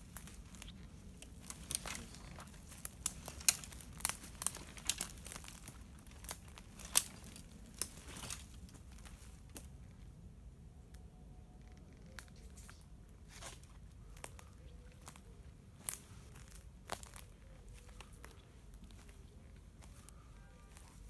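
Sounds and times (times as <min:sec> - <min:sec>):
footsteps on dry woodland litter: 0:00.0 - 0:09.8, 0:12.4 - 0:21.0
twigs snapping underfoot: 0:00.0 - 0:09.8, 0:11.7 - 0:21.0.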